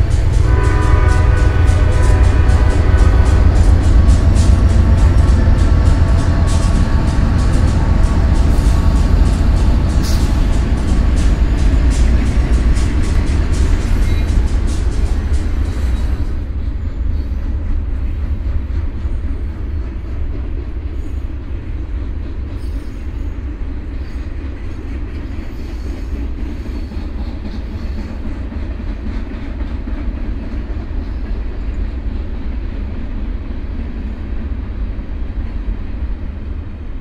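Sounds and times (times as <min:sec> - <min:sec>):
diesel freight train rumbling: 0:00.0 - 0:37.0.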